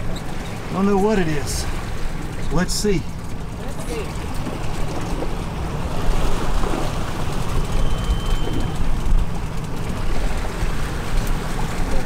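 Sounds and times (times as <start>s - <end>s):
choppy sea washing: 0.0s - 12.0s.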